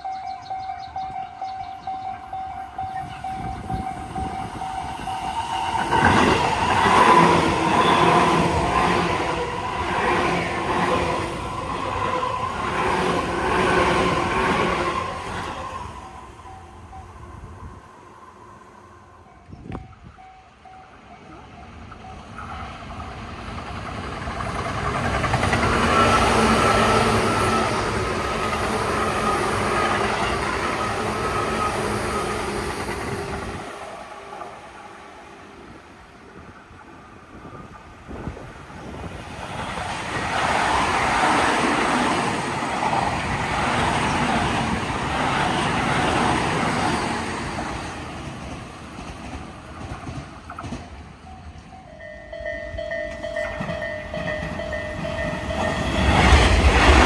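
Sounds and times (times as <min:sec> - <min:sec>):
train passing by: 0:00.0 - 0:57.0.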